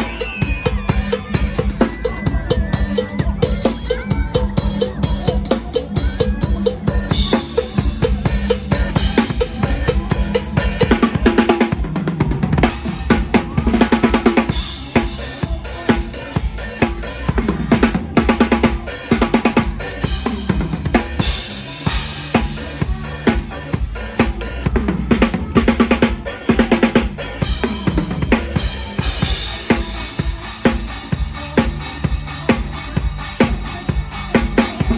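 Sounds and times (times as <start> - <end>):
bass notes: 0.0 - 34.9
drum kit playing fast: 0.0 - 34.9.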